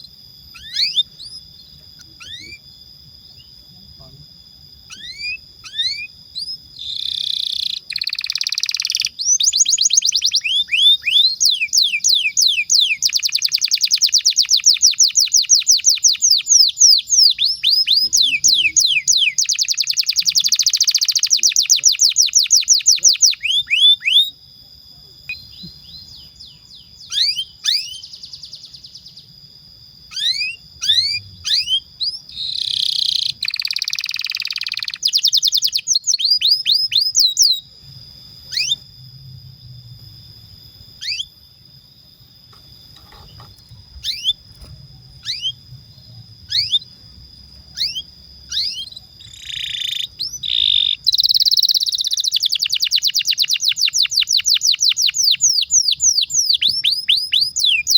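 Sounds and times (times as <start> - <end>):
canary singing trills: 0.0 - 4.1, 4.8 - 24.4, 25.2 - 29.4, 30.0 - 41.7, 42.5 - 57.9.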